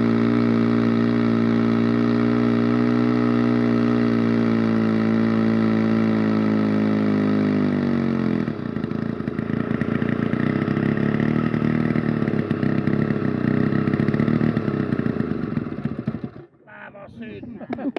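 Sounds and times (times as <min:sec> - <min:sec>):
chainsaw engine running: 0:00.0 - 0:17.9.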